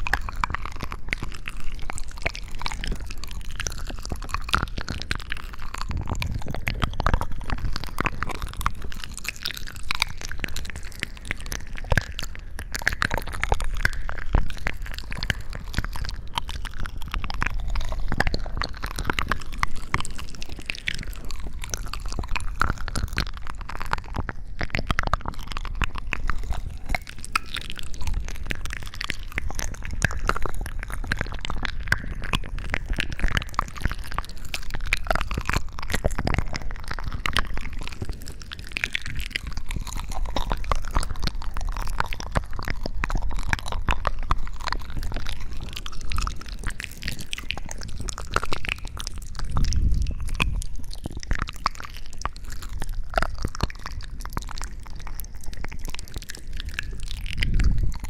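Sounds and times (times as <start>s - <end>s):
wet squishing and crackling: 0.0s - 58.0s.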